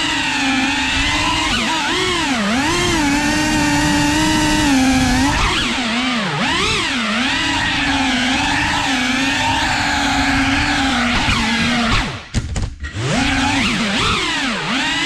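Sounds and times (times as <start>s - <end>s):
quadcopter motors whining: 0.0s - 12.3s, 12.9s - 15.0s.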